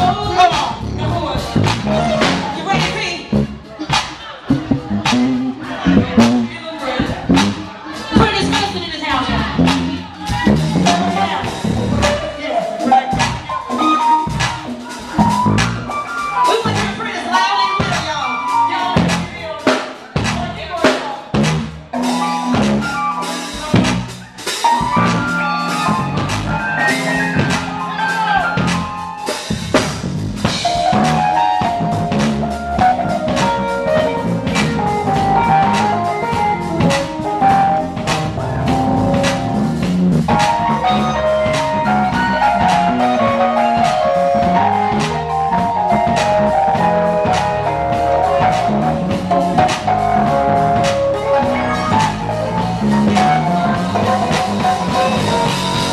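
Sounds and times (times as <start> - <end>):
bass guitar solo: 0.0 - 17.1, 17.8 - 19.4, 21.4 - 55.9
drum kit: 0.0 - 55.9.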